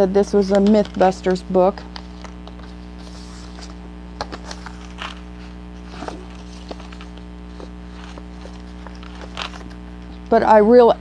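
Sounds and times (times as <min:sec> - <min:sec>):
low hum: 0:00.0 - 0:11.0
book pages rustling: 0:00.3 - 0:10.2.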